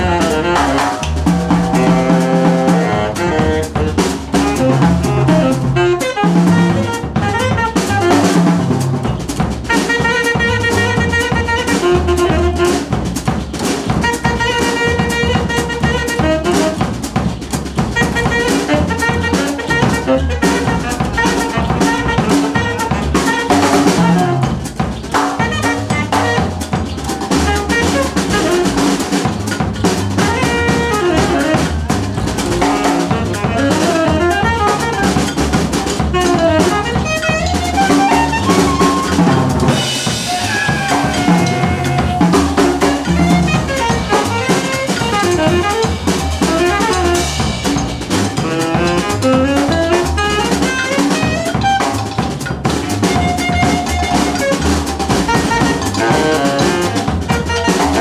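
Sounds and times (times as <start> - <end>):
bass line: 0.0 - 58.0
drum kit: 0.0 - 58.0
live jazz band playing: 0.0 - 58.0
wind instrument melodic runs: 0.0 - 58.0.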